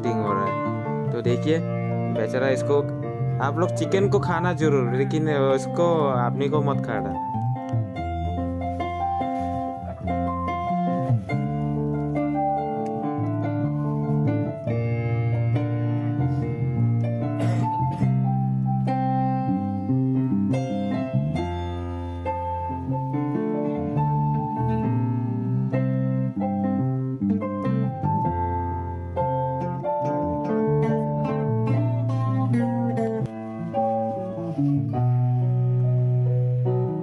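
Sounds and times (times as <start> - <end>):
keyboard notes: 0.0 - 37.0
sustained bass line: 0.0 - 37.0.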